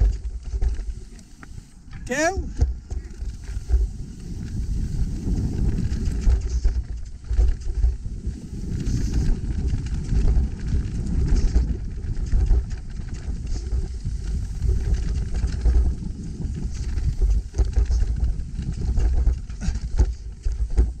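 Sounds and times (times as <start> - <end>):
bike rattling over trail: 0.0 - 21.0
wind buffeting microphone: 0.0 - 21.0.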